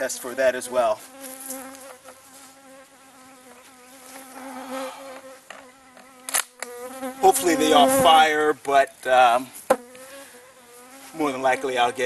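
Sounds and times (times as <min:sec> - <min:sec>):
insect buzzing: 0:00.0 - 0:12.0.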